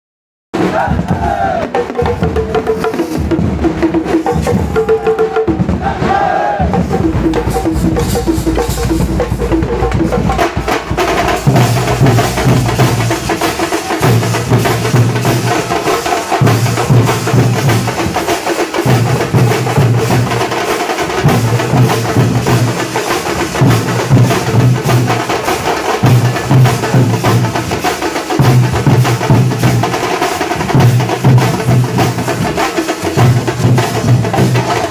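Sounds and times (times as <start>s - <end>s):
fast drumming: 0.6s - 34.9s.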